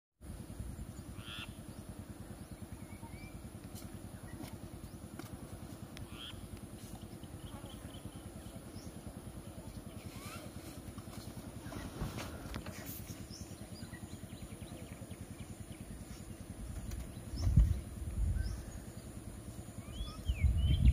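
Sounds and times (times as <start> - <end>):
vehicle engine idling: 0.2 - 20.9.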